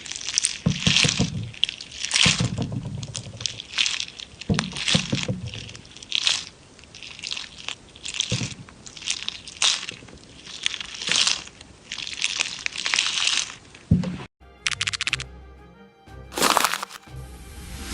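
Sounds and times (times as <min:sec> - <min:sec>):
jelly popping and squishing: 0:00.0 - 0:14.2, 0:16.4 - 0:17.0.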